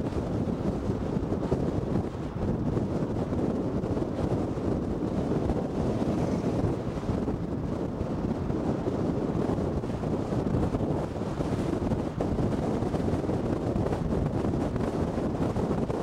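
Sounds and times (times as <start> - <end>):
car road noise rumble: 0.0 - 16.0
wind buffeting microphone: 0.0 - 16.0.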